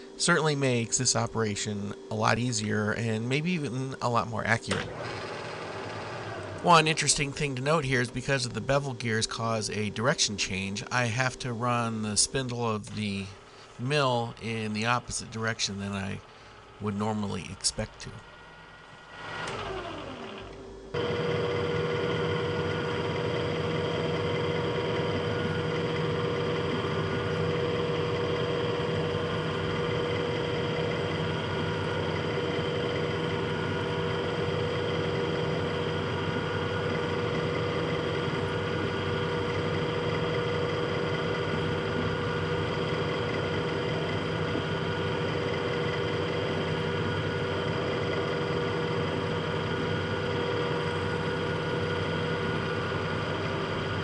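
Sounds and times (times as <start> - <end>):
drill boring metal: 4.7 - 8.9, 13.3 - 54.0
milling machine gears whining: 4.7 - 10.7, 13.2 - 54.0.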